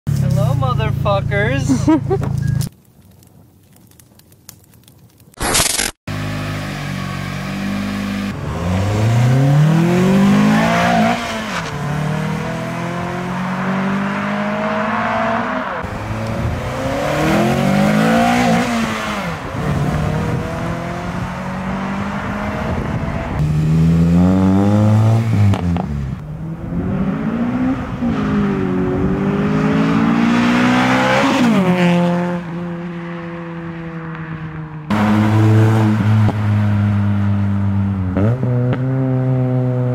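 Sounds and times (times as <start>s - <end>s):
car engine revving: 6.1s - 34.2s, 34.9s - 39.9s.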